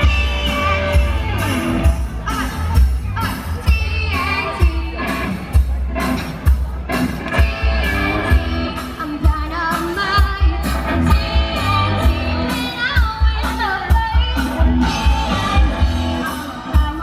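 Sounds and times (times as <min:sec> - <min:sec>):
rock-pop song with singing: 0:00.0 - 0:17.0.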